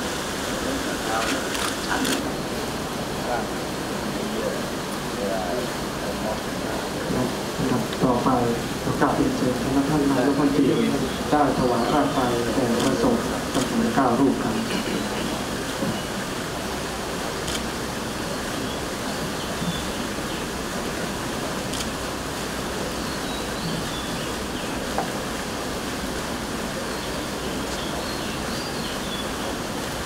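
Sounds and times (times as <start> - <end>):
air cooler fans hissing: 0.0 - 30.0.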